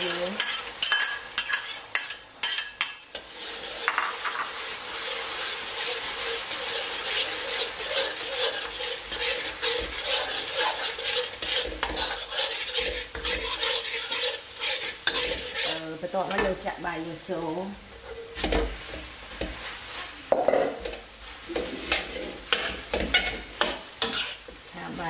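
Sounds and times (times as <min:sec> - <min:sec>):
metal spatula scraping a wok: 0:00.0 - 0:16.7, 0:17.8 - 0:25.0
eggs sizzling in a wok: 0:00.0 - 0:25.0.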